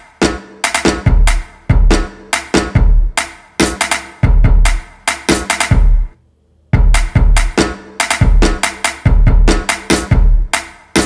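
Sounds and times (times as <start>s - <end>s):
kick drum thuds: 0.2s - 6.1s, 6.7s - 10.5s.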